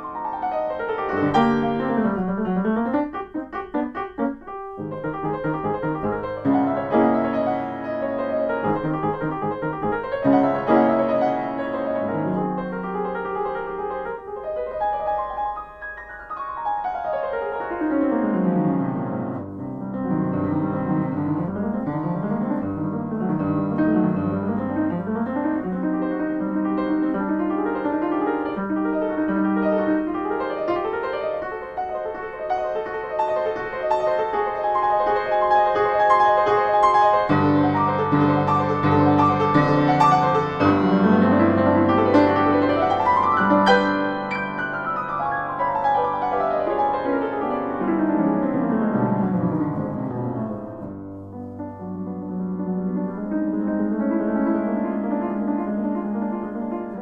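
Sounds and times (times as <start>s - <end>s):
grand piano playing classical piece: 0.0s - 57.0s.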